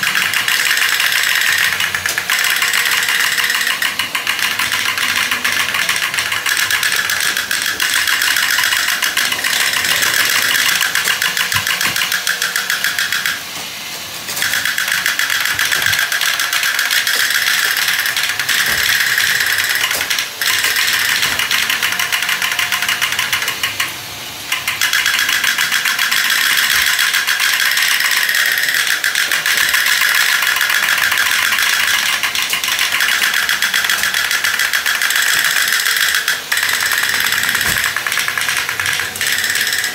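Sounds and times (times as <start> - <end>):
toy motors whirring and rattling: 0.0 - 39.9.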